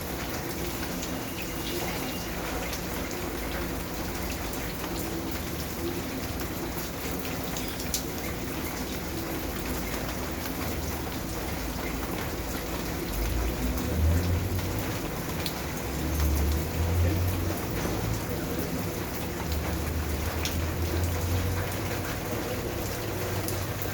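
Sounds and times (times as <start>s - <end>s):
rain falling: 0.0s - 23.9s.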